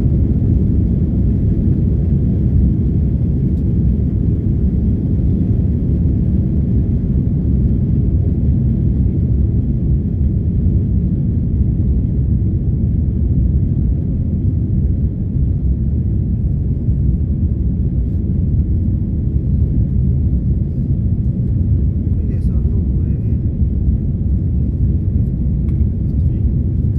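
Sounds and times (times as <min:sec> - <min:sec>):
jet engine cabin rumble: 0:00.0 - 0:26.9.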